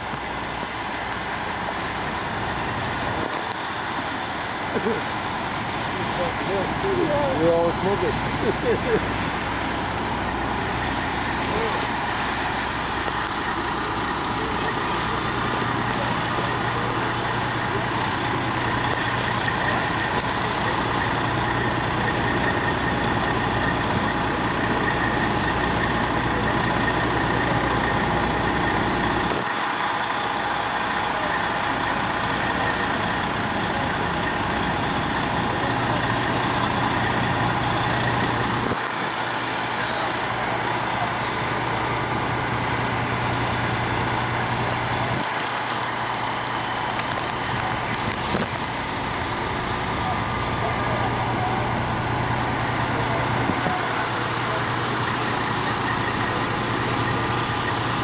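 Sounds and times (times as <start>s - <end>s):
fire truck engine running: 0.0s - 58.0s.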